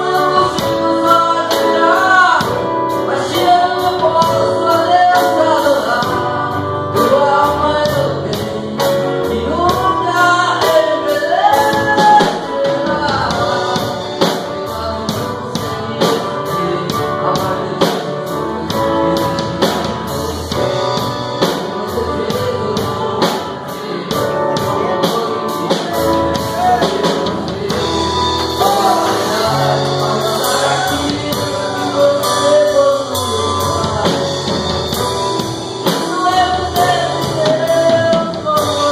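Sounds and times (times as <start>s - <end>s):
drum kit with cymbal strokes: 0.0s - 38.9s
keyboard: 0.0s - 38.9s
man singing into microphone: 0.0s - 38.9s.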